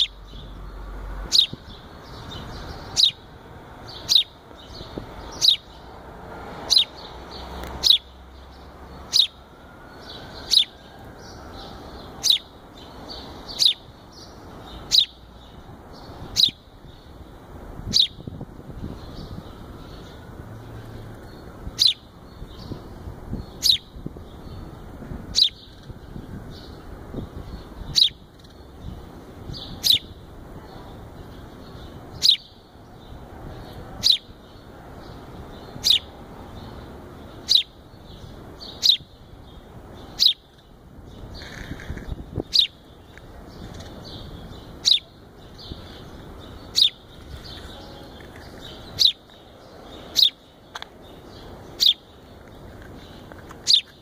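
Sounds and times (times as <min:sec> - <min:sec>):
fledgling sparrow chirping: 0:00.0 - 0:05.9, 0:06.6 - 0:09.4, 0:10.0 - 0:17.3, 0:17.9 - 0:54.0.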